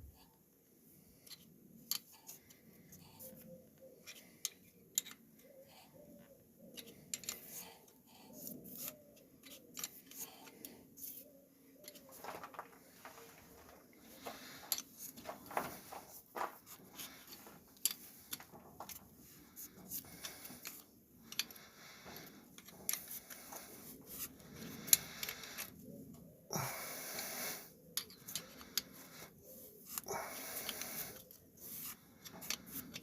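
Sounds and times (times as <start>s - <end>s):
hand tools clicking and scraping: 1.1s - 33.0s.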